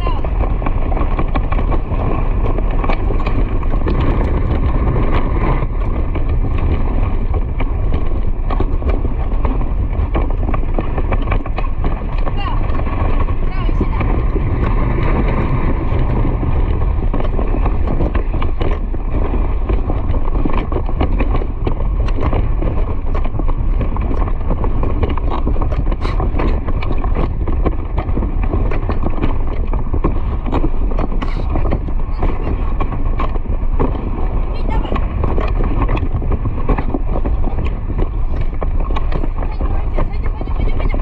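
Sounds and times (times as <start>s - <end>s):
horse hoofbeats: 0.0s - 41.0s
wind on microphone: 0.0s - 41.0s.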